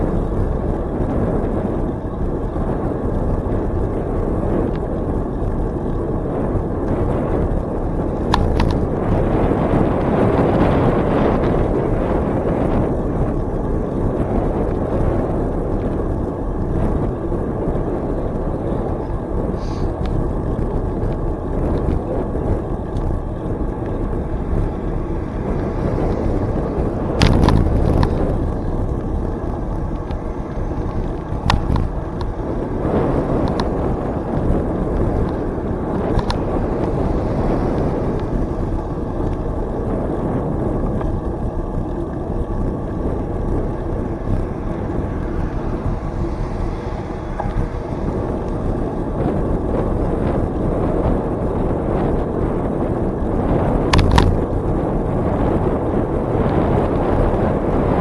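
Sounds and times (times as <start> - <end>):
bicycle rolling on trail: 0.0 - 58.0
wind on microphone: 0.0 - 58.0.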